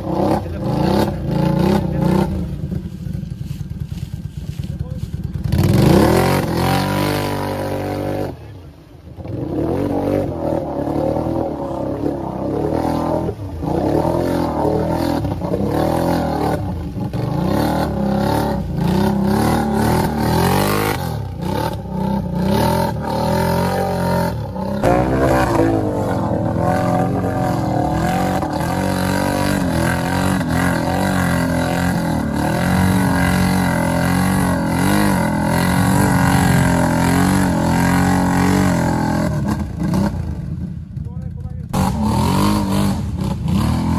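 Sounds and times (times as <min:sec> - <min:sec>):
atv engines revving in mud: 0:00.0 - 0:43.9.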